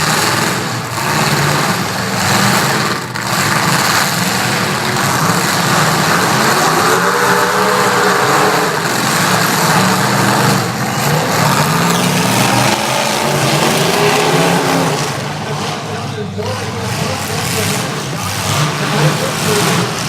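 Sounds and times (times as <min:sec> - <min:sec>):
truck engines revving: 0:00.0 - 0:20.0.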